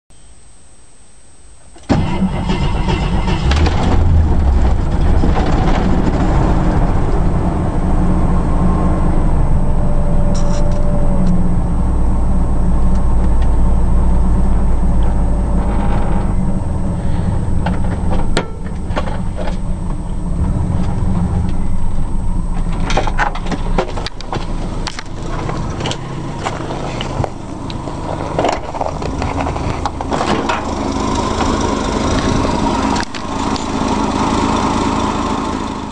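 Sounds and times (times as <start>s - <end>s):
car engine idling: 1.9s - 35.9s.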